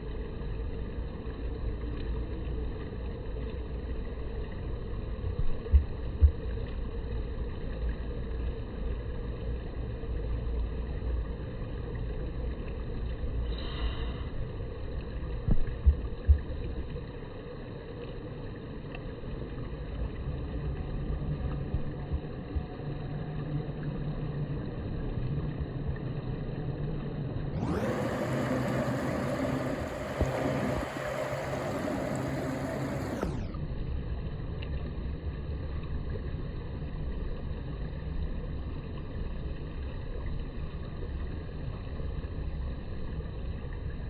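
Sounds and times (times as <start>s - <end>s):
outdoor background rumble: 0.0s - 38.7s.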